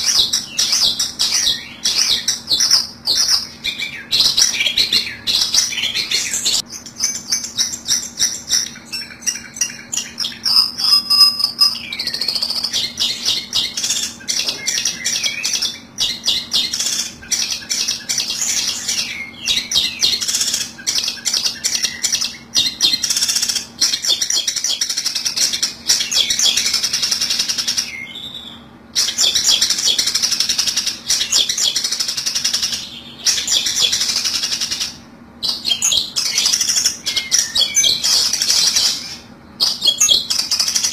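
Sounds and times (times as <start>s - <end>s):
bird harsh chattering and chirps: 0.0s - 40.9s
low steady hum: 0.0s - 40.9s.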